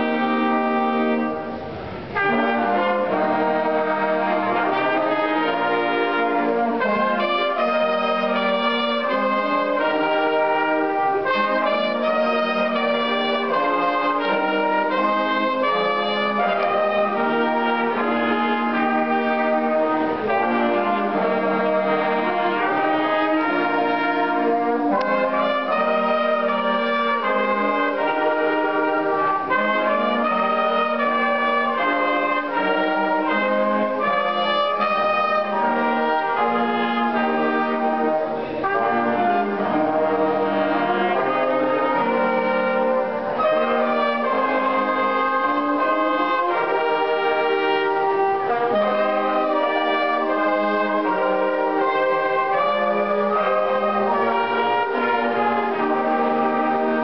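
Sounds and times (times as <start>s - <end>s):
wind band playing chords: 0.0s - 57.0s.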